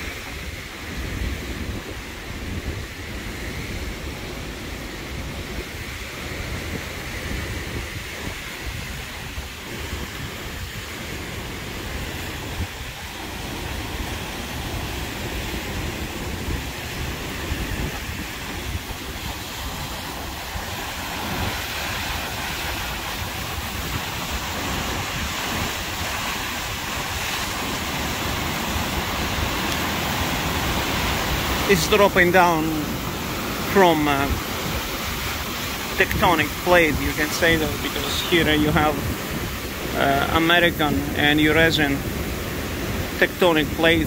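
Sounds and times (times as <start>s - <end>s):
wind buffeting microphone: 0.0s - 31.7s, 32.8s - 40.3s
waterfall roaring: 0.0s - 44.0s.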